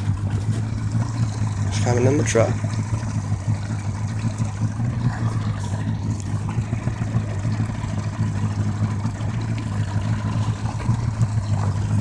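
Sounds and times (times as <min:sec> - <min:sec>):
two-stroke outboard engine idling: 0:00.0 - 0:12.0.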